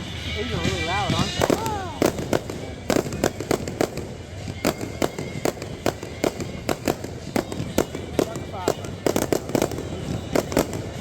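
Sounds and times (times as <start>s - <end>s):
fireworks bangs and cracks: 0.4s - 11.0s.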